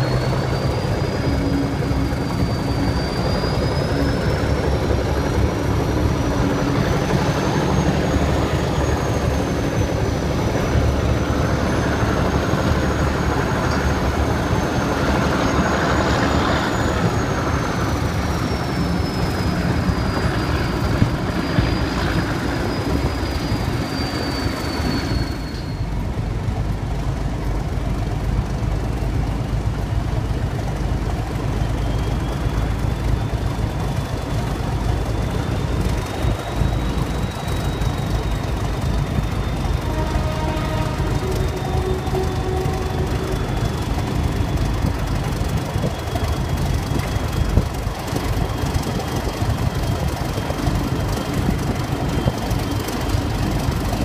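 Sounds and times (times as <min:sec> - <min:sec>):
high wavering whine: 0:00.0 - 0:26.0, 0:30.2 - 0:54.0
diesel locomotive engines rumbling: 0:00.0 - 0:54.0.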